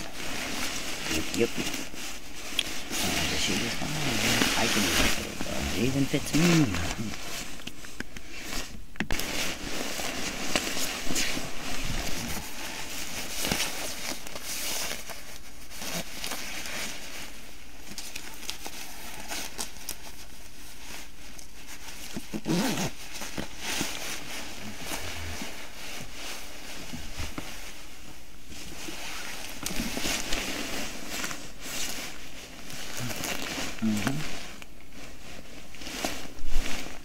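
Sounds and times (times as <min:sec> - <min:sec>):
clothing rustling and crinkling: 0:00.0 - 0:37.0.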